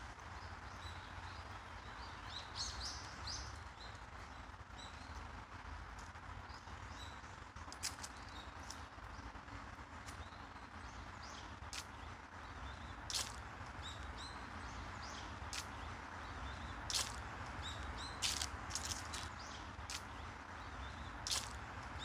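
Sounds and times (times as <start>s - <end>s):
small birds chirping: 0.3s - 5.3s, 6.0s - 22.0s
steady background hum: 1.8s - 22.0s.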